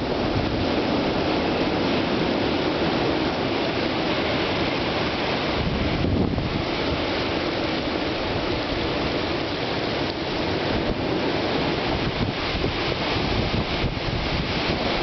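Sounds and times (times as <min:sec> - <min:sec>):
storm wind on microphone: 0:00.0 - 0:15.0.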